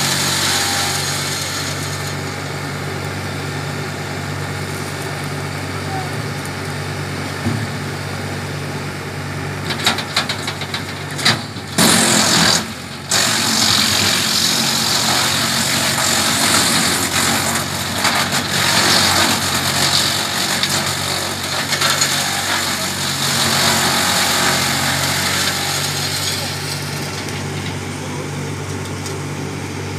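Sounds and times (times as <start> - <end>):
tractor engine droning: 0.0 - 29.9
wood chipper grinding branches: 0.0 - 29.9.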